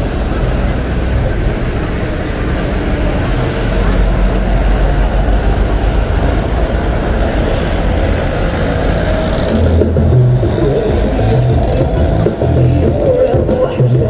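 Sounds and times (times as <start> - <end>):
cars passing: 0.0 - 14.0
motorbike passing: 0.0 - 14.0.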